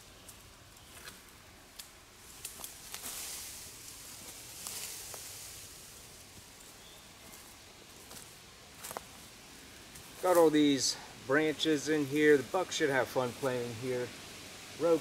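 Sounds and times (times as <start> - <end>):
leaves and branches rustling: 0.0 - 15.0.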